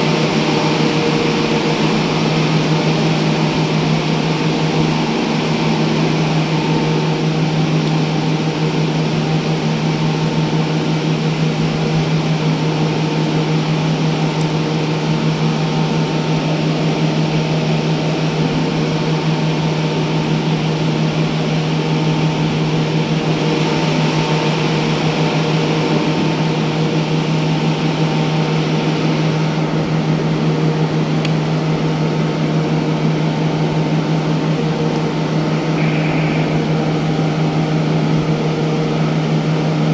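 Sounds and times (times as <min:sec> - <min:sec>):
loud machine drone: 0:00.0 - 0:39.9.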